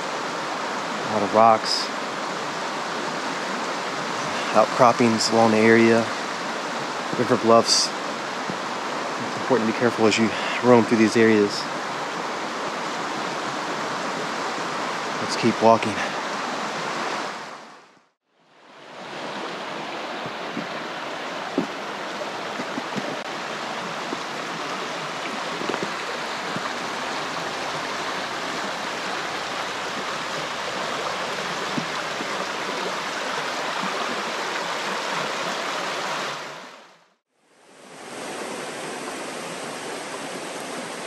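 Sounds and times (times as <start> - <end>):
river rapids rushing over rocks: 0.0 - 17.6, 18.8 - 36.8.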